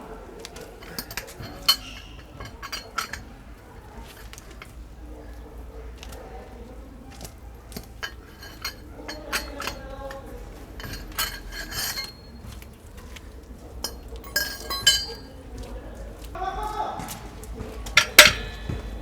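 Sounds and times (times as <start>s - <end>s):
metal tools clinking: 0.4s - 6.2s, 7.1s - 16.3s, 17.6s - 19.0s.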